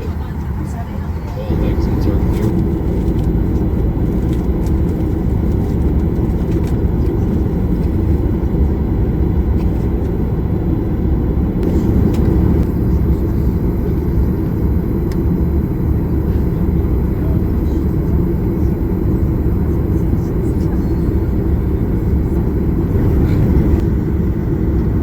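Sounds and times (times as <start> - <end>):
vehicle rumble from inside: 0.0 - 25.0.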